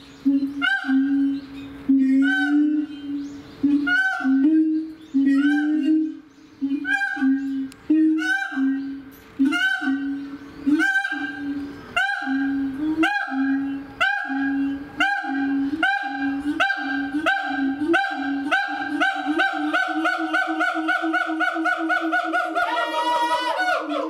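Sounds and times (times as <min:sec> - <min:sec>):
low steady calling tone: 0:00.2 - 0:20.8
ape calls with rising whoops: 0:03.6 - 0:24.0.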